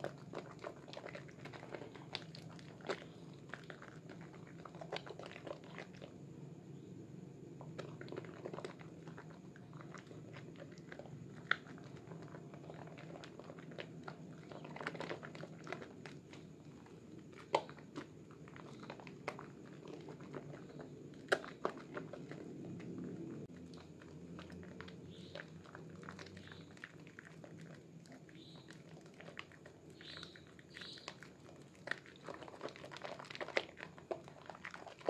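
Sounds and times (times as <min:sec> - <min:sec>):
hands squelching soap lather: 0:00.0 - 0:06.2, 0:07.6 - 0:35.0.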